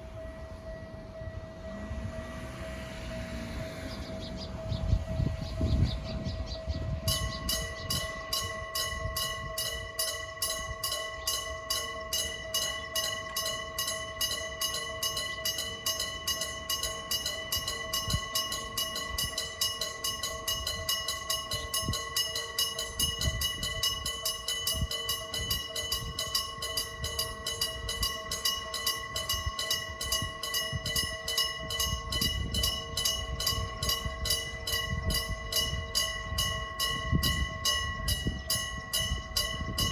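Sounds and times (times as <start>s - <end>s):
electric level crossing bell ringing: 0.0s - 39.9s.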